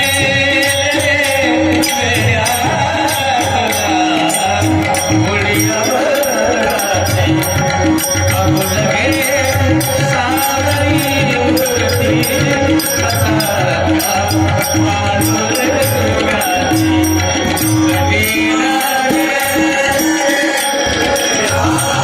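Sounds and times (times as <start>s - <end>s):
drum beats: 0.0s - 22.0s
jingling metal percussion: 0.0s - 22.0s
person singing devotional song: 0.0s - 22.0s.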